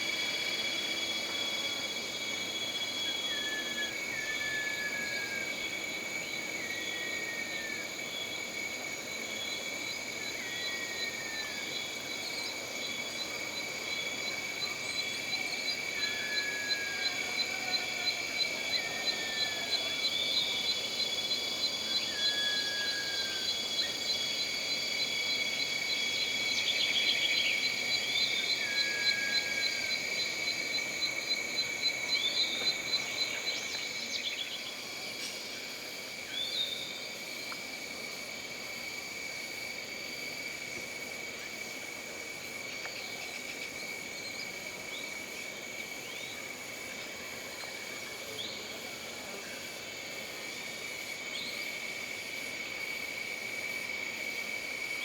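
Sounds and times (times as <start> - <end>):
crickets chirping: 0.0 - 55.0
insect drones: 0.0 - 55.0.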